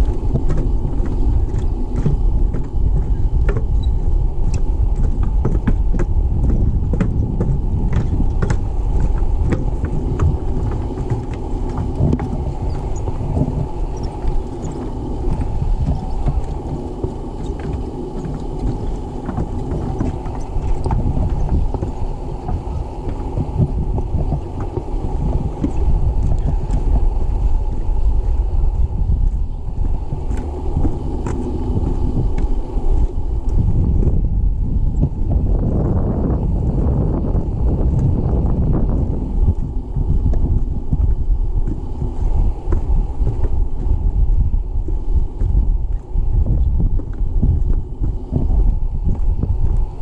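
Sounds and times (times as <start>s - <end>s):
footsteps on wooden boardwalk: 0.0s - 50.0s
wind buffeting microphone: 0.0s - 50.0s.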